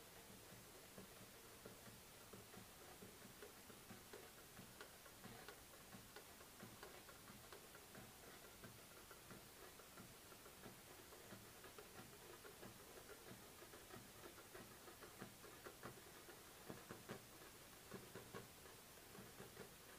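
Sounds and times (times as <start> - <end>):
faint regular ticking: 0.0 - 19.9.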